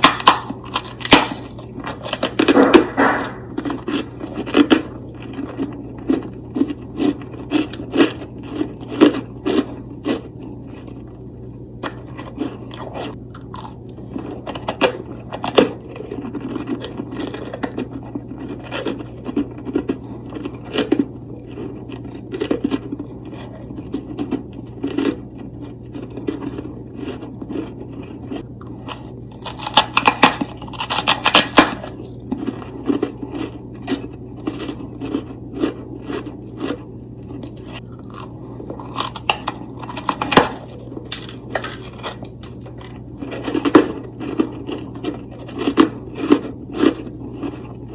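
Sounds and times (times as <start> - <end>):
crunching of freezer frost: 0.0 - 47.9
steady low hum: 0.0 - 47.9.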